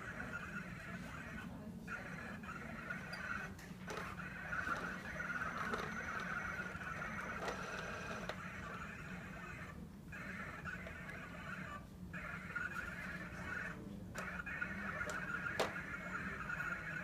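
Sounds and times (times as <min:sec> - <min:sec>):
robot vacuum motors whining: 0:02.0 - 0:11.8, 0:12.4 - 0:17.0.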